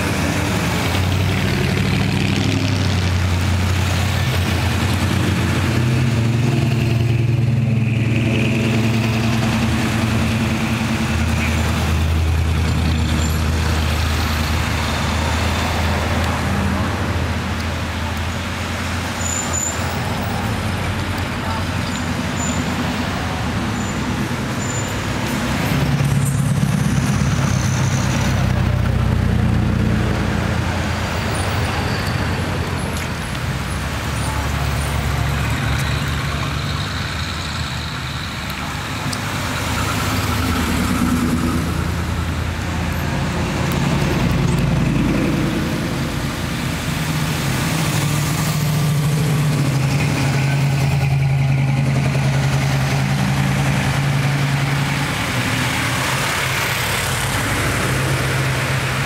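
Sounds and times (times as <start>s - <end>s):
cars and vans driving past: 0.0s - 59.0s.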